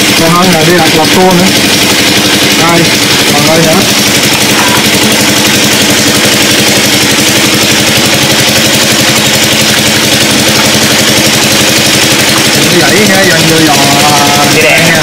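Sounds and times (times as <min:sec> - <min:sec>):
small boat engine chugging: 0:00.0 - 0:15.0.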